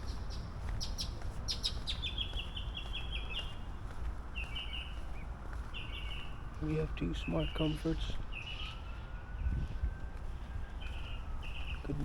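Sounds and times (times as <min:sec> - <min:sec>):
songbird chirping: 0:00.0 - 0:09.5, 0:10.2 - 0:12.0.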